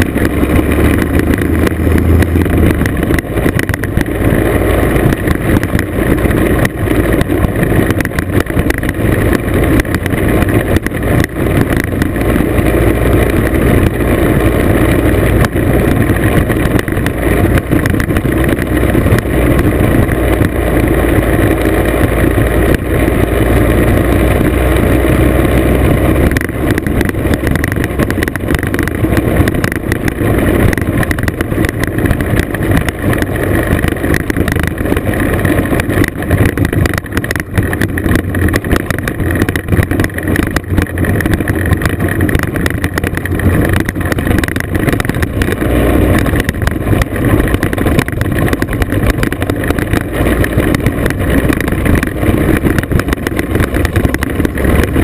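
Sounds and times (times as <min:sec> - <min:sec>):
gravel rattling under wheels: 0:00.0 - 0:55.0
scooter engine running: 0:00.0 - 0:55.0
wind on microphone: 0:00.0 - 0:55.0.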